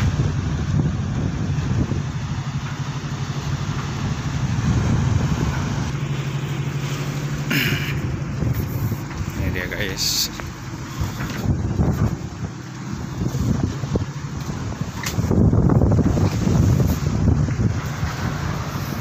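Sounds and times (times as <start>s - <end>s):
tugboat engine droning: 0.0s - 19.0s
wind buffeting microphone: 0.0s - 19.0s.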